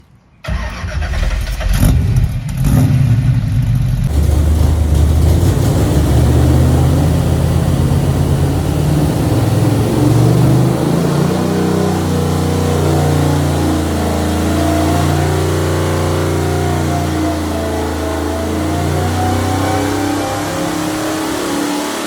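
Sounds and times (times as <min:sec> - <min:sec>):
vfour engine starting and running: 0:00.4 - 0:22.0.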